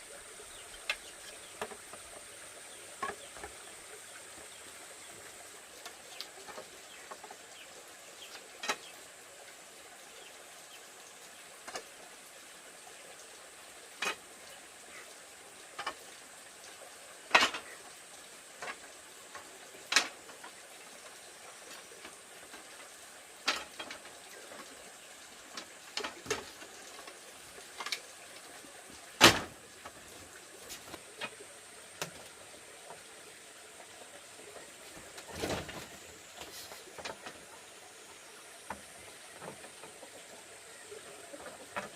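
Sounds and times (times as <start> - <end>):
faint high hiss: 0.0 - 41.9.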